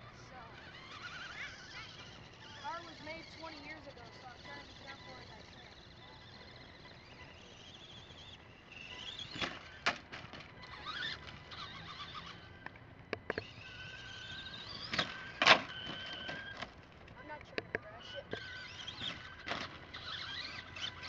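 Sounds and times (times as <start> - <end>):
rc car engine whining: 0.0 - 21.0.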